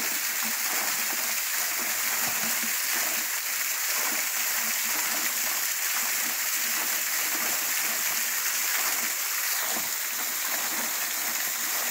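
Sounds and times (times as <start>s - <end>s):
waterfall splashing on rock: 0.0s - 11.9s.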